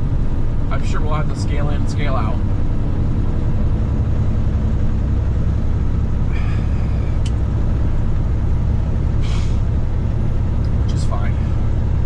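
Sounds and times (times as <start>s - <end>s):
truck diesel engine rumble: 0.0s - 12.0s.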